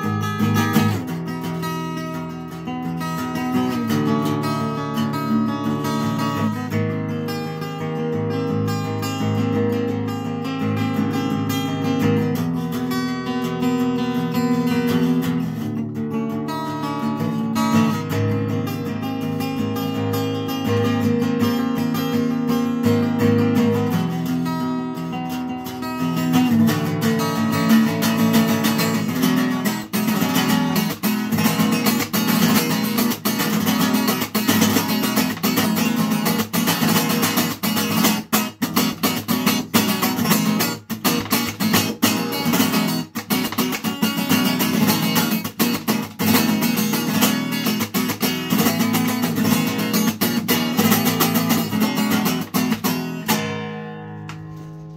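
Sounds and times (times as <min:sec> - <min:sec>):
acoustic guitar strumming: 0:00.0 - 0:54.9.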